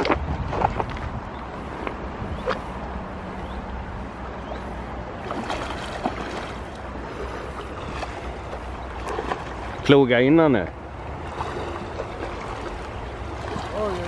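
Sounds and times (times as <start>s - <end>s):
river water over stones: 0.0s - 14.0s
water splashes: 0.0s - 14.0s.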